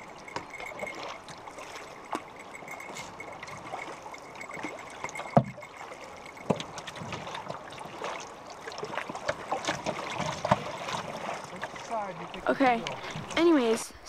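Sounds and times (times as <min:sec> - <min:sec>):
water splashing against canoe: 0:00.0 - 0:13.8.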